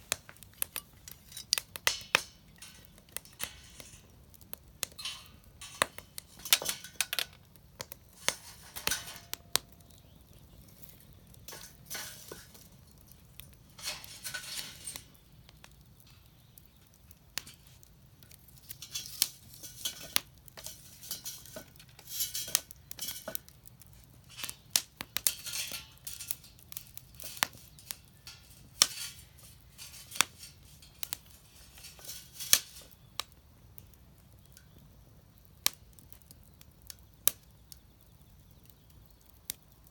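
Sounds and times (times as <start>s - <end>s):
small hard objects clicking: 0.0s - 39.9s.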